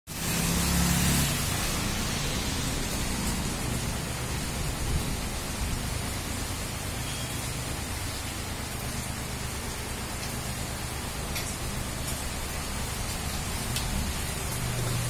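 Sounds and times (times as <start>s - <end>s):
heavy rain on foliage and street: 0.1s - 15.0s.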